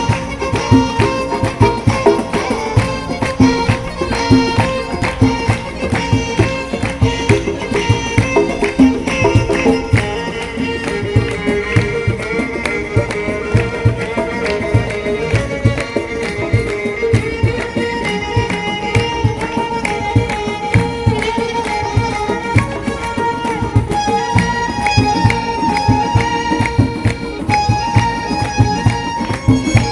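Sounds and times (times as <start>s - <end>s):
hand drum beat: 0.0s - 29.9s
held melody line: 0.0s - 29.9s.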